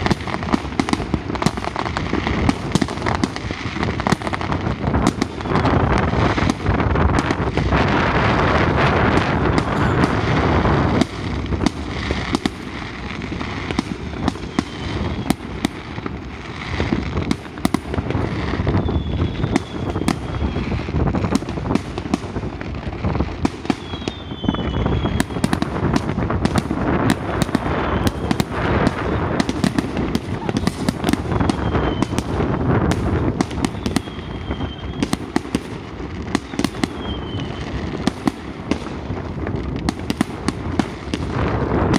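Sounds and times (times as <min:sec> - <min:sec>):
firework whistles: 0:00.0 - 0:41.9
fireworks bangs and crackle: 0:00.0 - 0:41.9.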